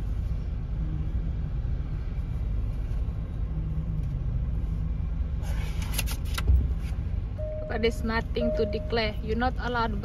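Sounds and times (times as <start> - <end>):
car engine and tyres rumble: 0.0 - 10.0.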